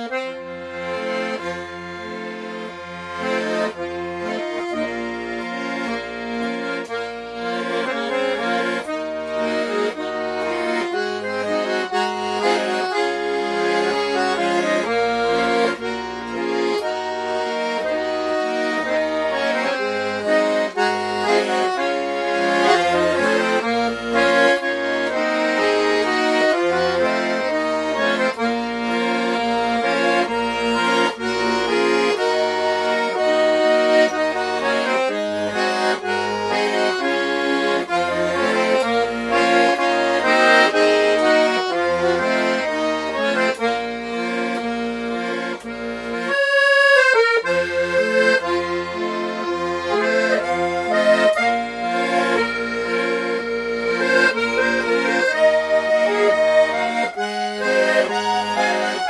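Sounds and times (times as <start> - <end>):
button accordion melody: 0.0 - 59.0.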